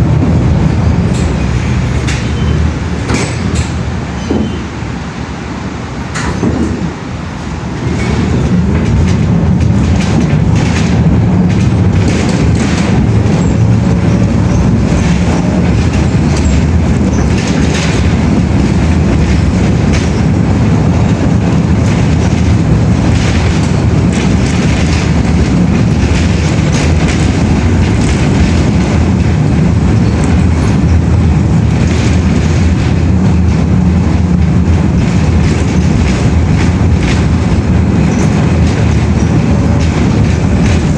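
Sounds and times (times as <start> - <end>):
train rumbling: 0.0 - 40.9
train wheels clacking: 0.0 - 40.9.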